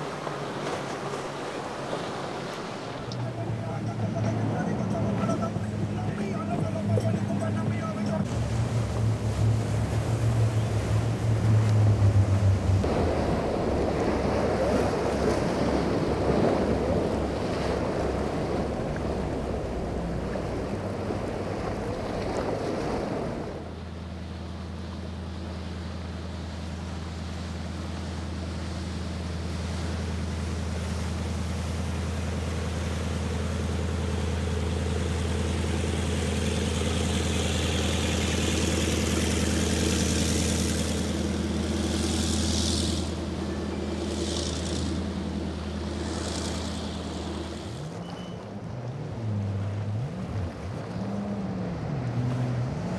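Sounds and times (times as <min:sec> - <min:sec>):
powerboat engines running: 0:00.0 - 0:52.9
rushing water: 0:00.0 - 0:52.9.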